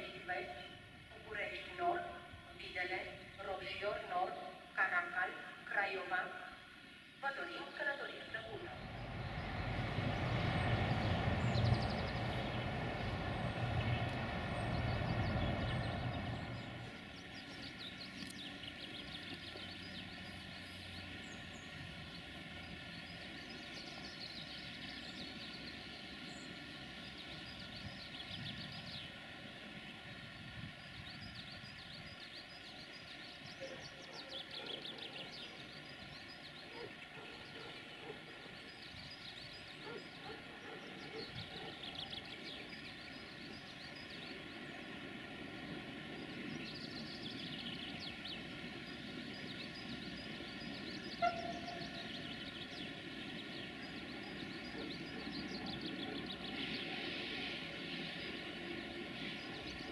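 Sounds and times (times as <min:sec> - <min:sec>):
small birds chirping: 0:07.8 - 0:59.9
train rumble: 0:08.2 - 0:59.9.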